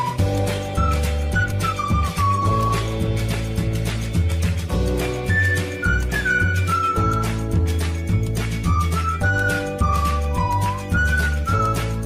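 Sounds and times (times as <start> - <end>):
whistle-like melody: 0.0 - 3.7, 4.7 - 12.0
pulsing bass line: 0.0 - 12.0.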